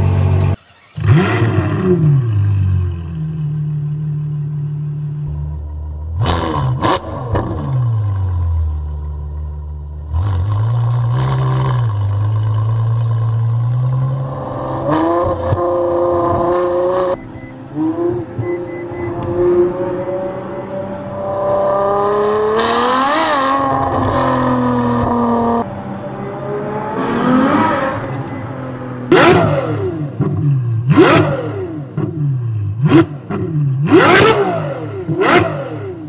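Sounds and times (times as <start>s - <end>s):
sports car engine revving: 0.0s - 36.0s.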